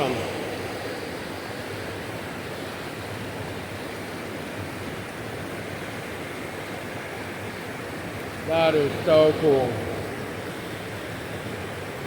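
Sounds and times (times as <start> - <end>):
stream water rushing over log: 0.0 - 12.0.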